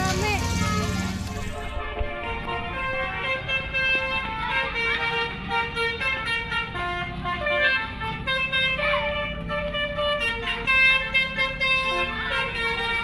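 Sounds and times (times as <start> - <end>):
bus musical horn tune: 0.8 - 13.0.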